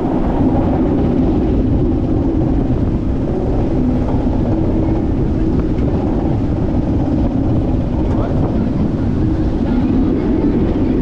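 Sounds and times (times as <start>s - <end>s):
roller coaster lift drone: 0.0s - 11.0s.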